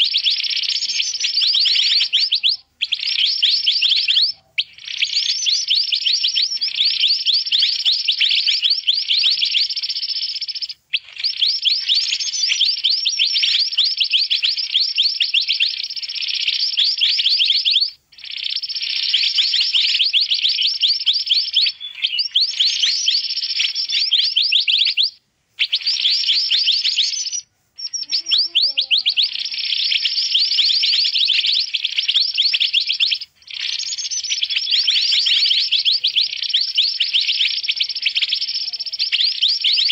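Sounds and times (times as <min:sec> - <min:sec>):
birds chattering rapid high chirps: 0:00.0 - 0:39.9.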